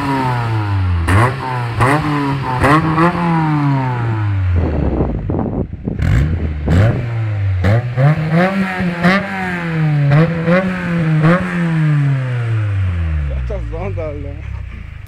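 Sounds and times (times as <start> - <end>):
car engine revving with crackles: 0.0 - 15.0.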